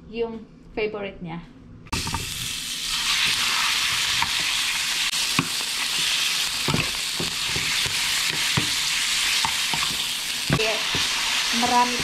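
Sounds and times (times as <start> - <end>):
chicken sizzling in hot oil: 1.9 - 12.0.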